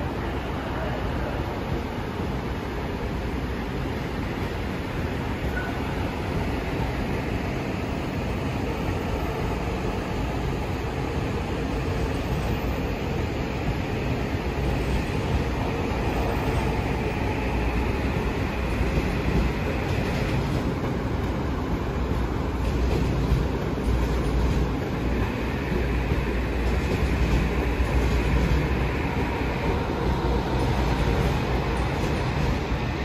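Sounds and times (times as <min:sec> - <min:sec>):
train wheels rumbling and rattling: 0:01.7 - 0:33.0.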